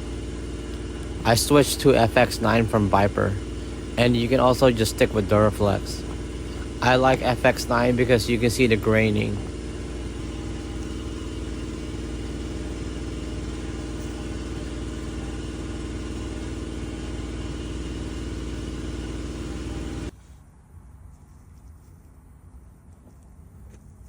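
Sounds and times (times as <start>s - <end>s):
heat gun running: 0.0s - 20.2s.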